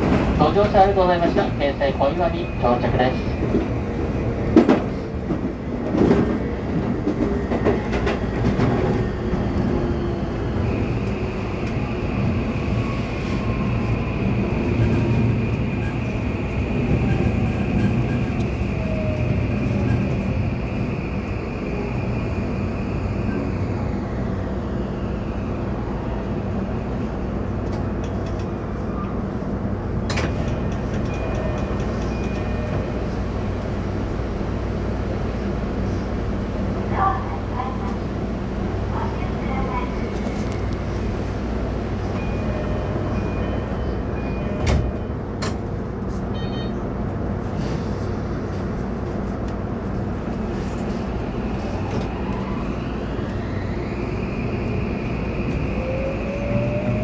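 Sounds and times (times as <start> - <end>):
train wheels and motors rumbling: 0.0 - 57.0.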